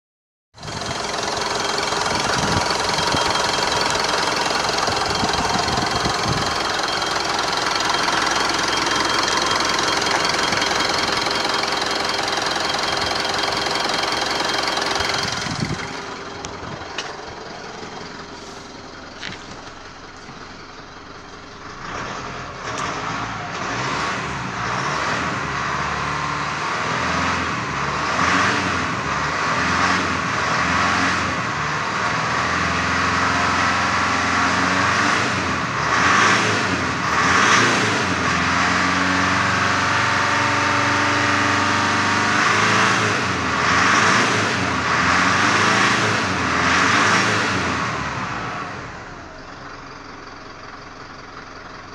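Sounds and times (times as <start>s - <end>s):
diesel engine revving: 0.6s - 51.9s.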